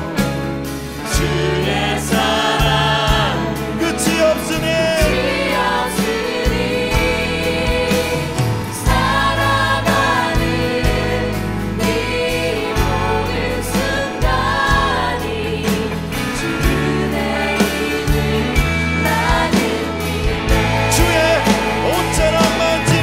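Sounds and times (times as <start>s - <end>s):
electric bass low notes: 0.0s - 23.0s
voices singing worship song: 0.0s - 23.0s.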